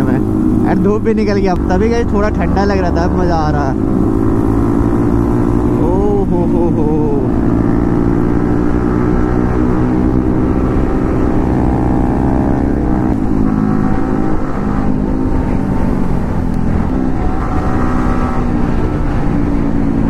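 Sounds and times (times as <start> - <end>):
motorcycle engine running: 0.0 - 17.9
low wind rumble on microphone: 0.0 - 20.0.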